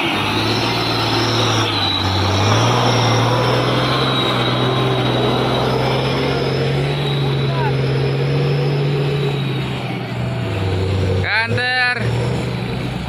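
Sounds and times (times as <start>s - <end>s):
truck diesel engine running hard: 0.0s - 13.0s.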